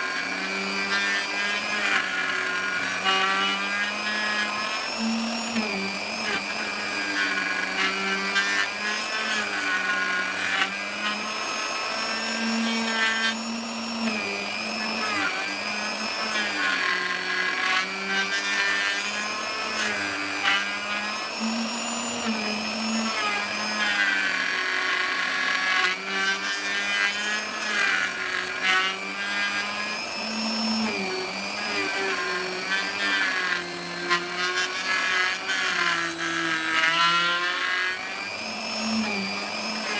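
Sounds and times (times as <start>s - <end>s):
electric router cutting wood: 0.0s - 39.9s.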